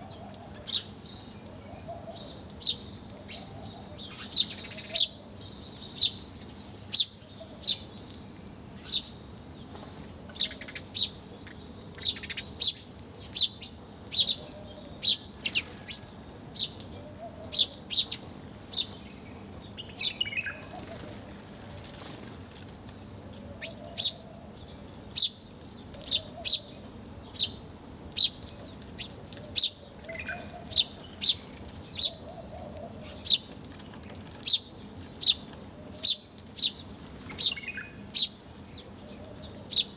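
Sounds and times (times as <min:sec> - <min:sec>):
faint wavering bird calls: 0:00.0 - 0:08.2, 0:10.2 - 0:22.0, 0:23.3 - 0:33.5, 0:34.4 - 0:39.9
small birds chirping: 0:00.0 - 0:39.9.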